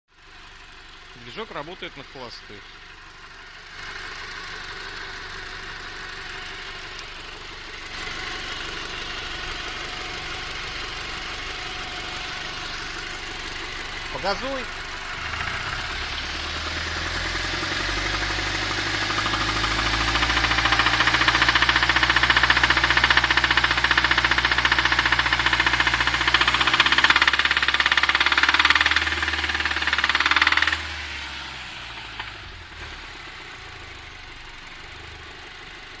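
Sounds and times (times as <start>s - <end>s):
car engine revving: 1.0s - 35.7s.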